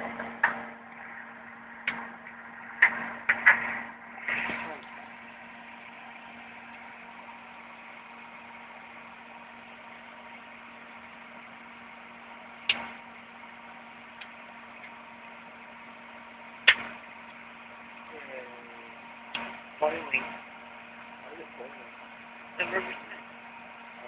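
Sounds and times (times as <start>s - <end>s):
fan humming: 0.0s - 24.0s.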